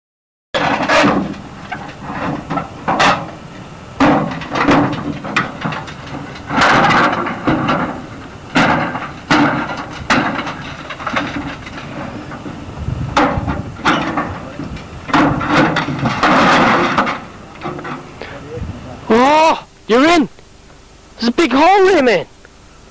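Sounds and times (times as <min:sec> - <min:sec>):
tin sheets and timber banging: 0:00.6 - 0:19.2, 0:21.2 - 0:22.2.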